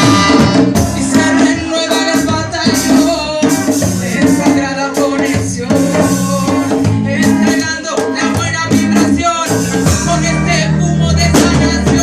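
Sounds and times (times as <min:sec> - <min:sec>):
reggae music with singing: 0:00.0 - 0:12.0.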